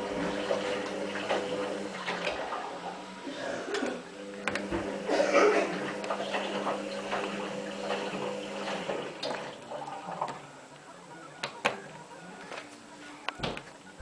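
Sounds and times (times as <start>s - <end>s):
faint water sloshing: 0.0s - 11.4s
washing machine hum: 0.0s - 14.0s.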